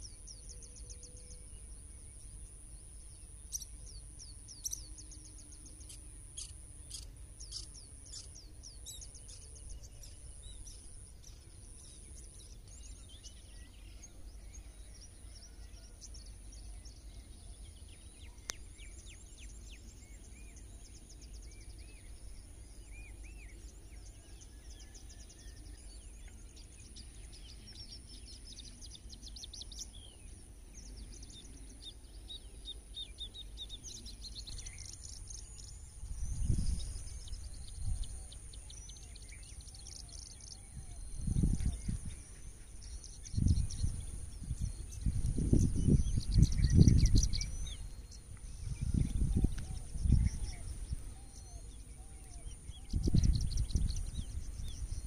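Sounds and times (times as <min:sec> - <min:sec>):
lower curving bird calls: 0:00.0 - 0:55.0
small birds chirping: 0:00.0 - 0:55.0.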